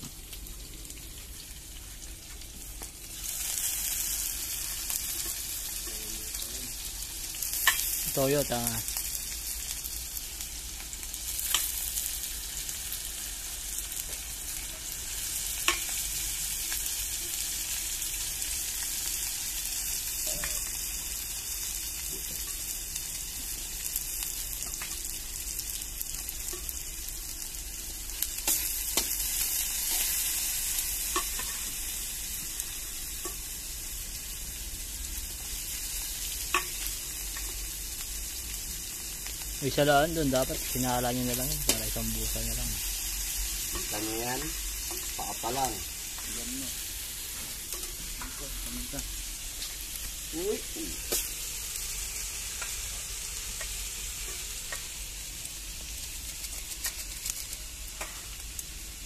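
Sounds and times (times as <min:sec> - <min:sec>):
frying hiss in a wok: 0:00.0 - 0:59.0.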